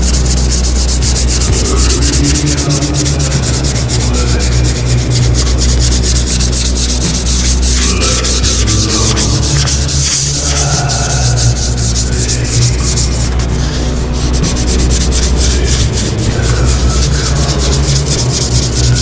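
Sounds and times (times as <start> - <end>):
sandpaper rubbing on sheet metal: 0.0 - 19.0.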